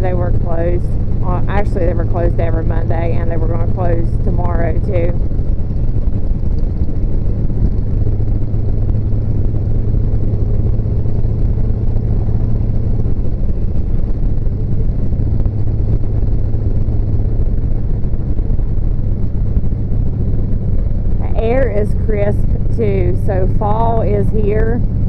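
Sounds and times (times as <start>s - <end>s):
motorcycle engine cruising: 0.0s - 25.0s
road noise: 0.0s - 25.0s.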